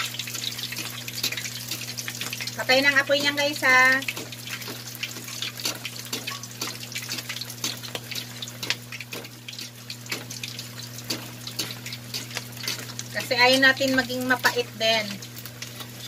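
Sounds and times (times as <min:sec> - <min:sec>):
meat sizzling in hot oil: 0:00.0 - 0:16.0.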